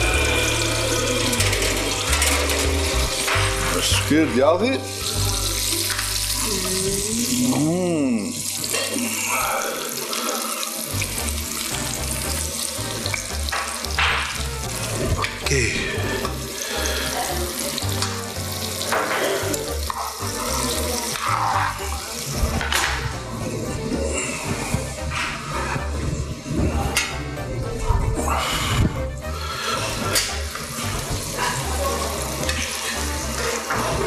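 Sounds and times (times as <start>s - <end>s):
frying pan sizzling: 0.0s - 27.4s, 28.6s - 34.0s
background music: 0.0s - 34.0s.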